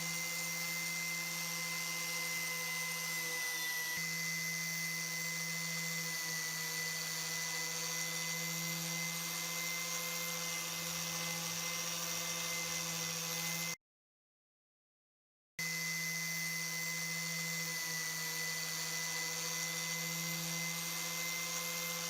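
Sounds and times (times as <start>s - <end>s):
electric power tool running: 0.0s - 13.8s, 15.6s - 22.0s.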